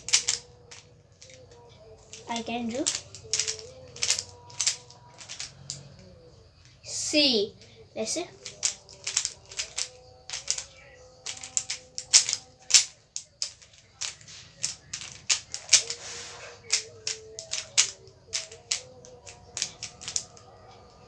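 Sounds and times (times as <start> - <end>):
plastic puzzle cube clicking: 0.0 - 7.0, 7.6 - 16.0, 16.6 - 21.0.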